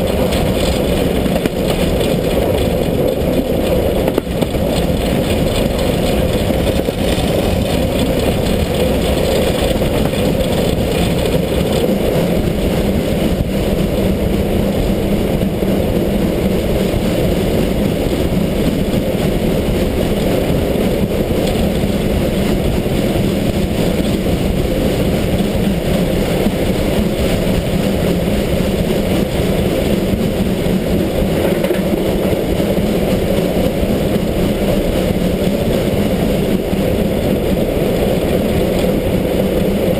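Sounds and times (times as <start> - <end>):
locomotive wheels rumbling on rails: 0.0 - 39.9.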